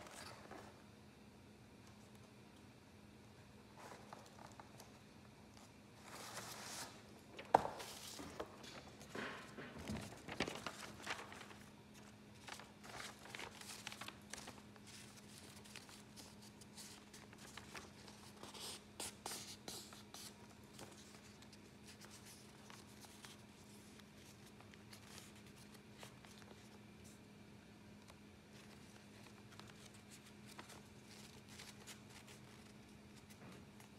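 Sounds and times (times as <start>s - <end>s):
faint low hum: 0.0s - 33.9s
paper filter rustling: 5.6s - 27.2s, 28.1s - 33.9s.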